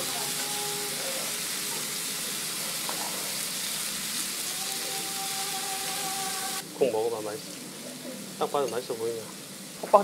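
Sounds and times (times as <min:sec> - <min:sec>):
steaks sizzling on a grill: 0:00.0 - 0:10.0.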